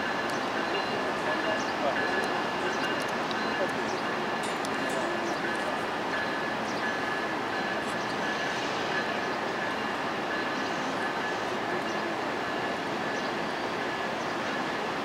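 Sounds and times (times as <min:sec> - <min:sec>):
train rolling: 0:00.0 - 0:15.0.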